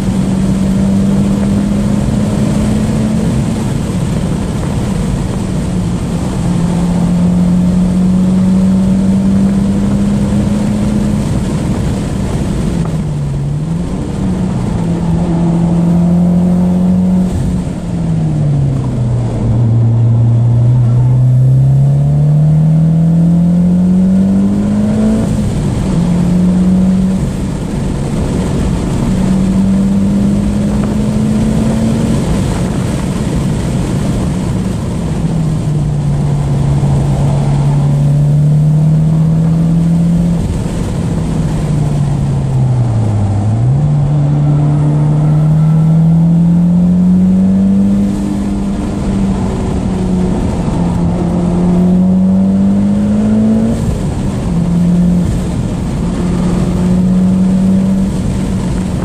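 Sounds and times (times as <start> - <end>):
car engine from inside cabin: 0.0 - 59.0
tyre and wind noise: 0.0 - 59.0.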